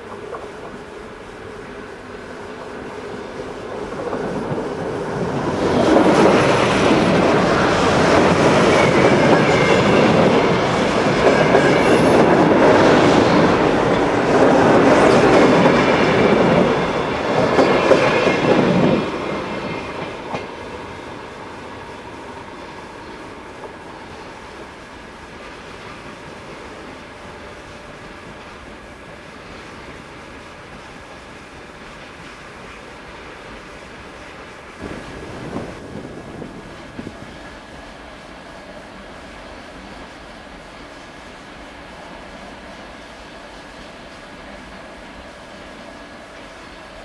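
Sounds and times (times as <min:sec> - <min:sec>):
electric train passing: 0:00.0 - 0:47.0.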